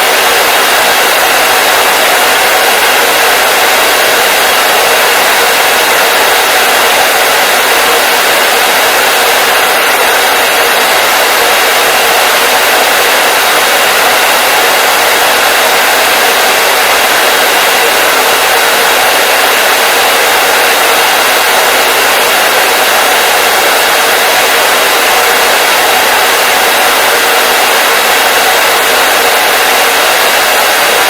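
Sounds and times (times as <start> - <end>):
hair dryer blowing: 0.0 - 31.0.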